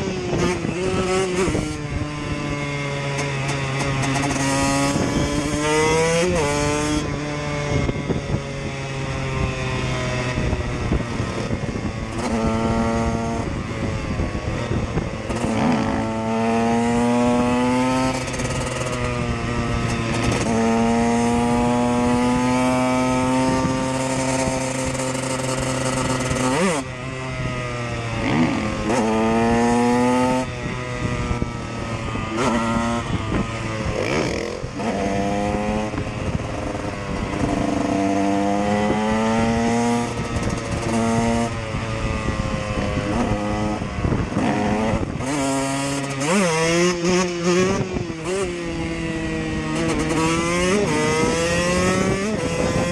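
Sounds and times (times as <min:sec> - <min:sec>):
dirt bike engine shifting gears: 0:00.0 - 0:08.2, 0:09.7 - 0:52.9.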